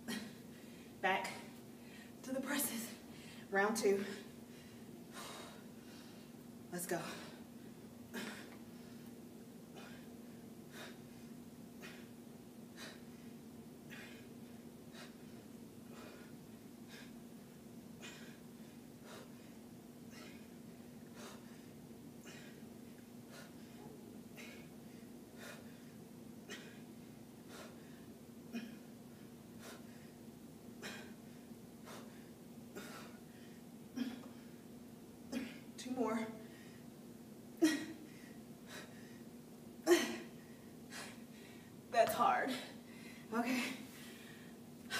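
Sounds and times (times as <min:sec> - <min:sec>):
woman breathing with effort: 0:00.0 - 0:34.7, 0:35.3 - 0:37.0, 0:37.6 - 0:41.8, 0:42.5 - 0:44.9
steady low hum: 0:00.0 - 0:44.9.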